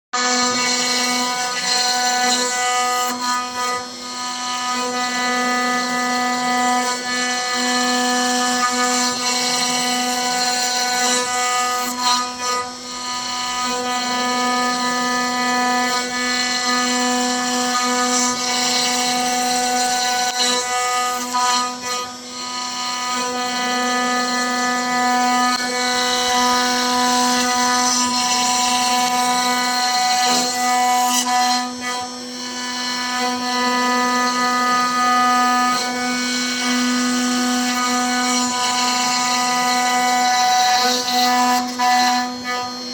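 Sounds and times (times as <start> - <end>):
router spindle whining cutting wood: 0.1 - 42.9.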